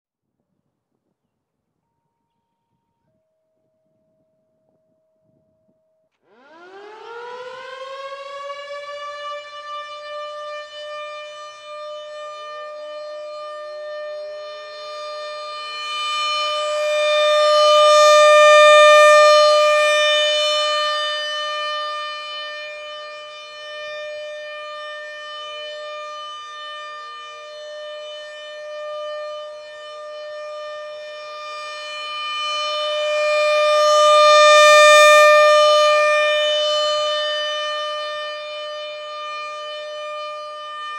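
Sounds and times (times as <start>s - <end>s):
rotating warning siren: 6.2s - 40.9s.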